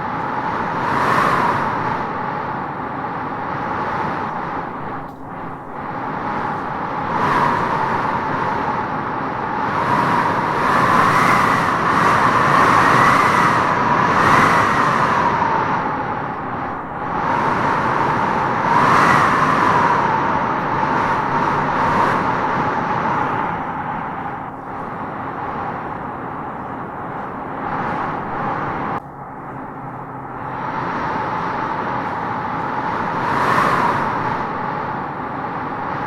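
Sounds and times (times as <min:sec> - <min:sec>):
wind howling through trees: 0:00.0 - 0:36.0.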